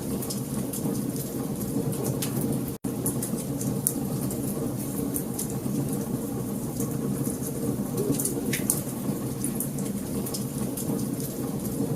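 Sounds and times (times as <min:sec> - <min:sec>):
fire crackles and pops: 0:00.0 - 0:11.9
wood fire rumbling: 0:00.0 - 0:11.9.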